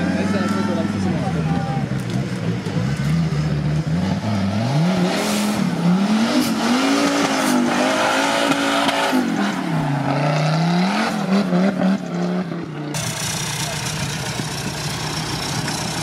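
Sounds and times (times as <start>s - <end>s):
buggy engine revving hard: 2.7s - 16.0s.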